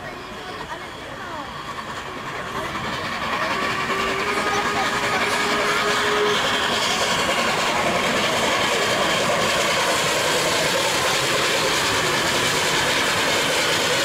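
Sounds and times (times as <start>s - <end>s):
steam locomotive rolling past: 0.0s - 14.0s.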